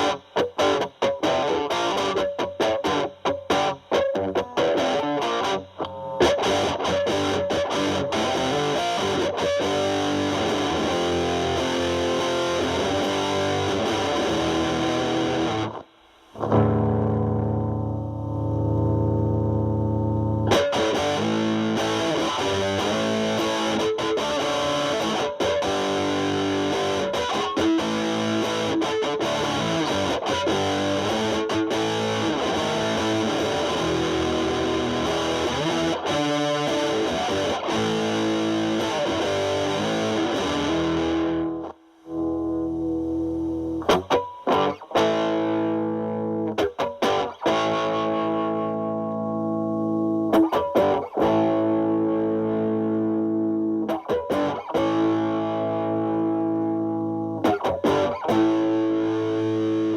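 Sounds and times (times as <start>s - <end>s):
distorted electric guitar riff: 0.0s - 59.9s.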